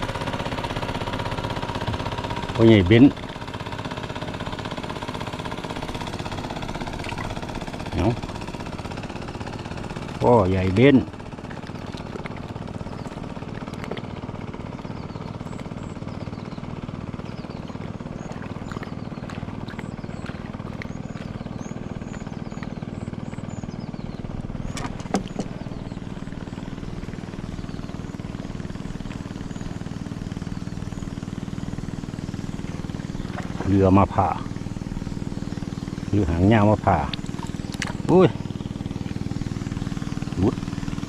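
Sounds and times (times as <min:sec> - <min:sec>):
birds chirping: 0:00.0 - 0:41.0
boat engine running: 0:00.0 - 0:41.0.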